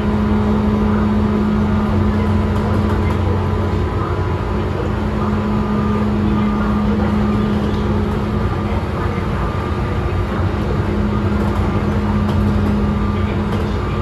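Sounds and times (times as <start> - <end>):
low electric chopper hum: 0.0 - 14.0
train rail and running noise: 0.0 - 14.0.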